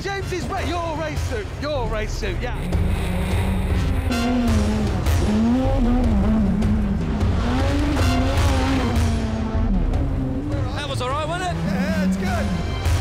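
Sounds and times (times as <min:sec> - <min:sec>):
rally car engine revving: 0:00.4 - 0:13.0.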